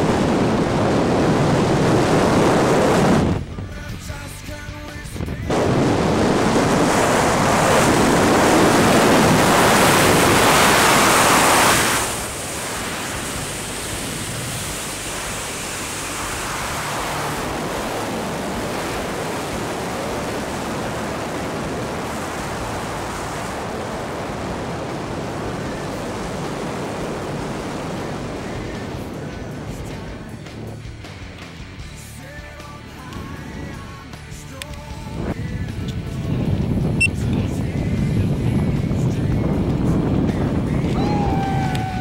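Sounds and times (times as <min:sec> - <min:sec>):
wind rushing over microphone: 0:00.0 - 0:04.2, 0:05.0 - 0:31.2, 0:34.9 - 0:42.0.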